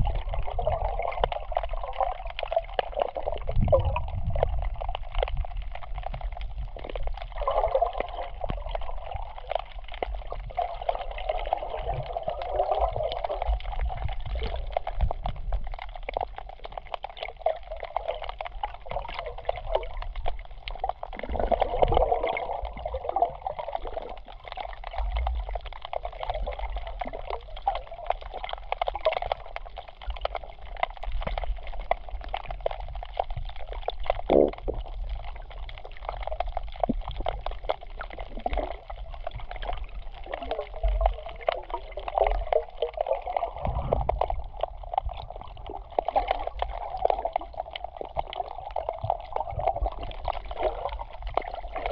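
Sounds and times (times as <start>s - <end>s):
muffled water gurgling underwater: 0.0s - 51.9s.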